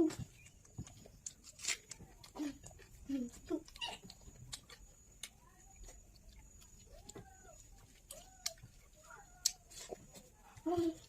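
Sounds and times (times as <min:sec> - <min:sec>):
person chewing and smacking: 0:00.0 - 0:11.0.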